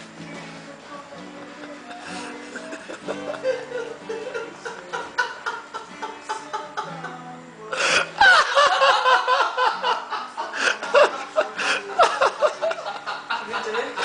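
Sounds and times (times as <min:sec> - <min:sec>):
background music: 0:00.0 - 0:14.0
people giggling and laughing: 0:01.2 - 0:14.0.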